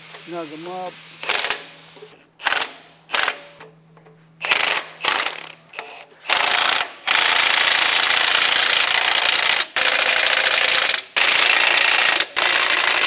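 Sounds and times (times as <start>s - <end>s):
impact wrench bursts: 1.2s - 3.6s, 4.4s - 13.0s.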